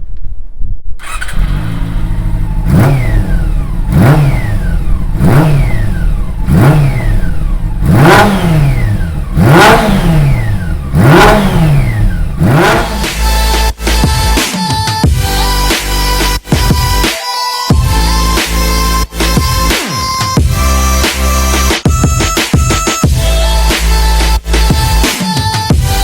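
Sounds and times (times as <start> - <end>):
motorcycle engine revving: 1.0 - 17.0, 17.7 - 22.2, 23.0 - 26.0.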